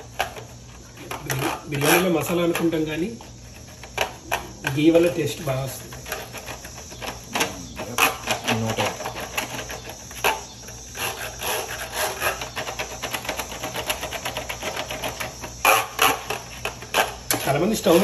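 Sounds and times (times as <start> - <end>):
fingers scraping foil tray: 0.0 - 18.0.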